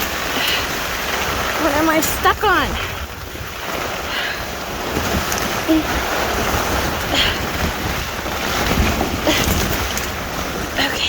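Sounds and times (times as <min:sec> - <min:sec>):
heavy rain: 0:00.0 - 0:11.0
plastic tarp rustling: 0:00.0 - 0:11.0
wind buffeting microphone: 0:00.0 - 0:11.0.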